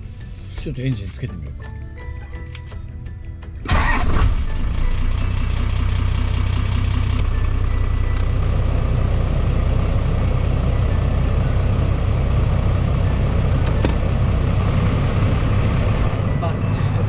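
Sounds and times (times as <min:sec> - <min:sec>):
diesel engine idling: 0:02.9 - 0:17.0.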